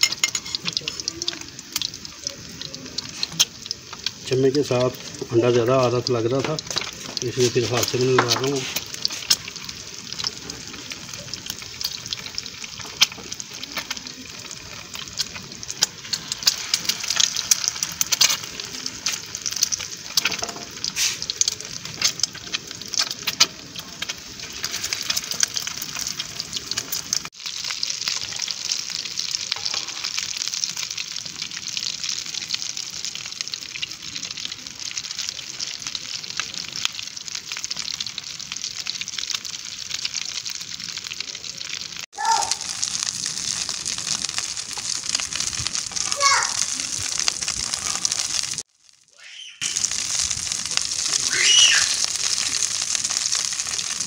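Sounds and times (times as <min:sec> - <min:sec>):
frying oil sizzling: 0:00.0 - 0:54.0
oil crackling pops: 0:00.0 - 0:54.0.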